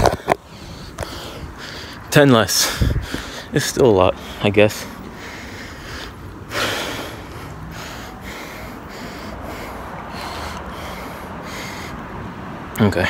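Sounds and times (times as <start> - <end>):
man breathing hard: 0.1 - 12.6.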